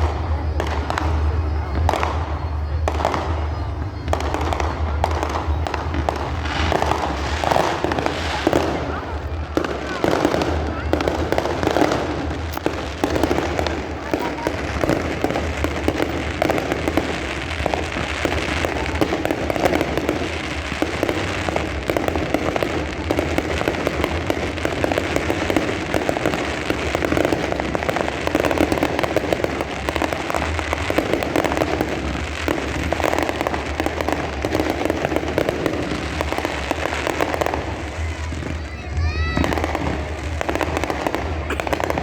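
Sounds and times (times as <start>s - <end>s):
fireworks popping and crackling: 0.0s - 42.0s.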